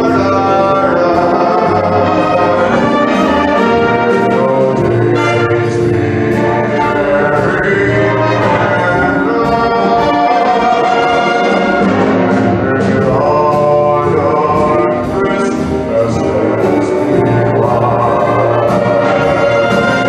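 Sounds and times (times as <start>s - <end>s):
wind band playing brass chords: 0.0s - 20.0s.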